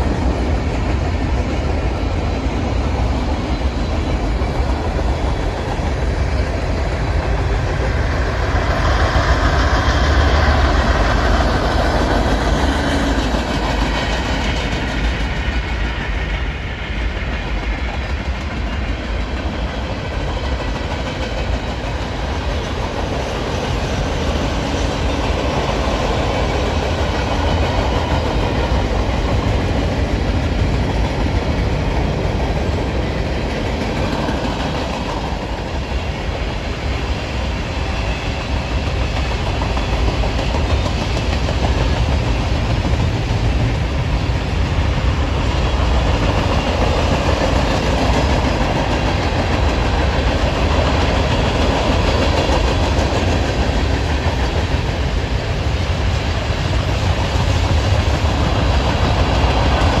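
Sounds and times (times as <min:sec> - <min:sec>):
freight train wheels rumbling: 0:00.0 - 1:00.0.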